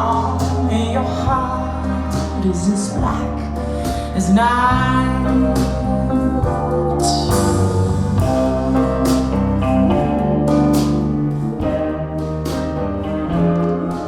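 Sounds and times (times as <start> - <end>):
slow blues instrumental: 0.0 - 14.0.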